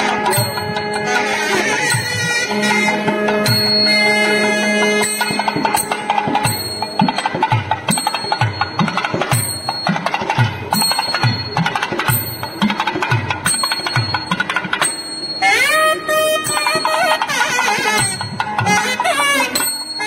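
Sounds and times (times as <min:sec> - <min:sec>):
drum beating steady rhythm: 0:00.0 - 0:20.0
small hand cymbals clashing: 0:00.0 - 0:20.0.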